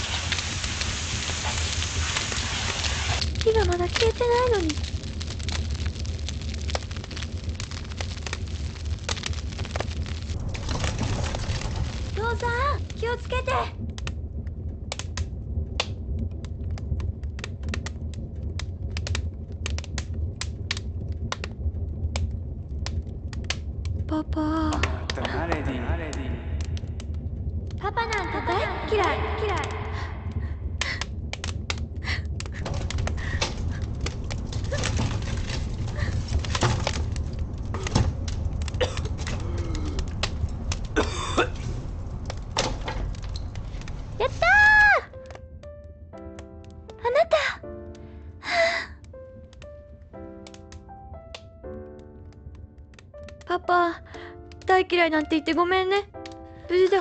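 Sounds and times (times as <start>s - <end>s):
fire crackling: 0.0s - 57.0s
low rumble: 0.0s - 57.0s.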